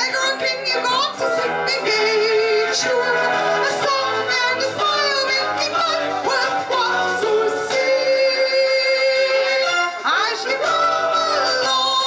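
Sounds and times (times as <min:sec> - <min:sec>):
instrumental accompaniment: 0:00.0 - 0:12.0
woman singing with vibrato: 0:00.0 - 0:12.0.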